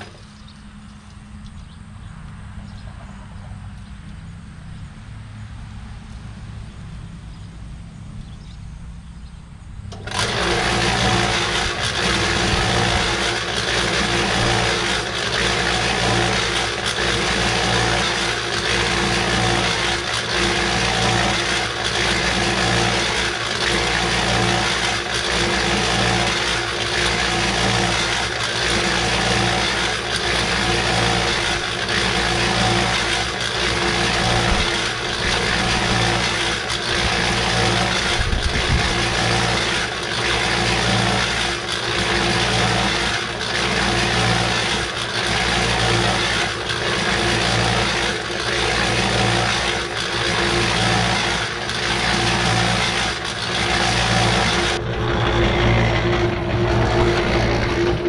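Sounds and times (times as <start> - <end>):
electric cement mixer running: 0.0 - 1.4, 9.8 - 58.0.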